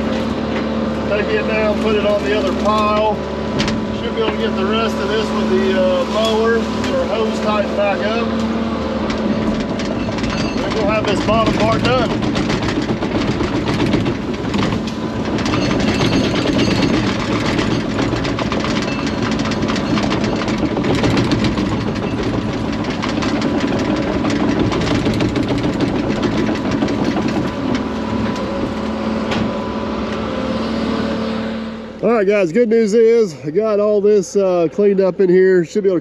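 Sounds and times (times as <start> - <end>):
excavator diesel engine: 0.0 - 36.0.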